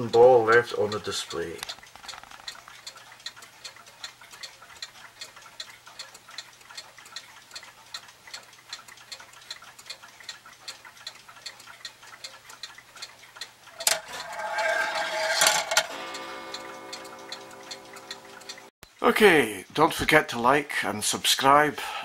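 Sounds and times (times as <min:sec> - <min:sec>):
clock mechanism ticking: 0:00.0 - 0:19.0.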